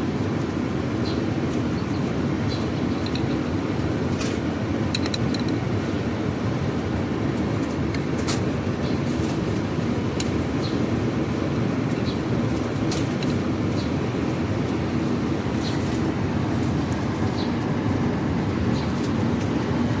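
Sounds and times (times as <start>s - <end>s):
mechanical rumble: 0.0s - 20.0s.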